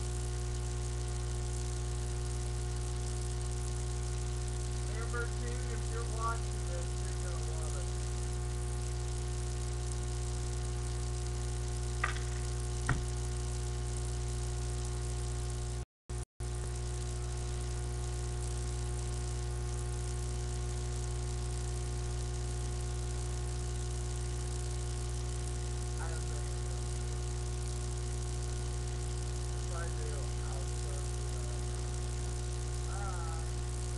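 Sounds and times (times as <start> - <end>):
electrical hum with hiss: 0.0 - 15.8, 16.4 - 33.9.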